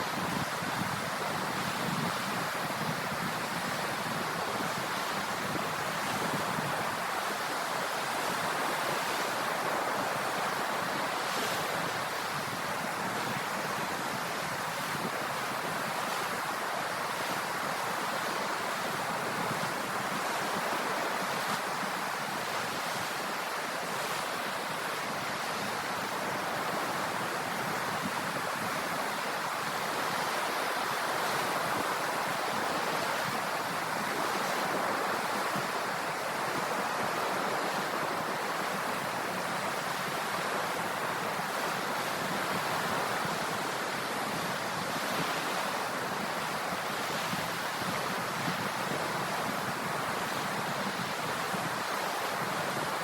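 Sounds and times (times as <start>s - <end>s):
sea waves surf hiss: 0.0s - 53.0s.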